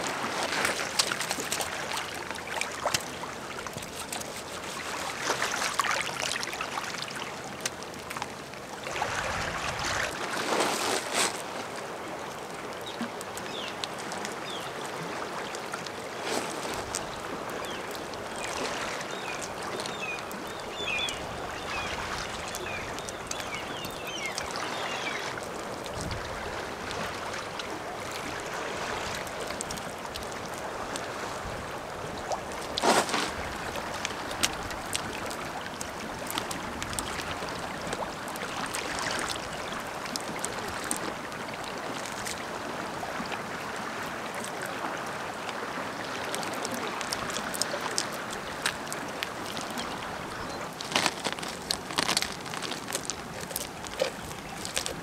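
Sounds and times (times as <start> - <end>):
muddy water sloshing: 0.0 - 55.0.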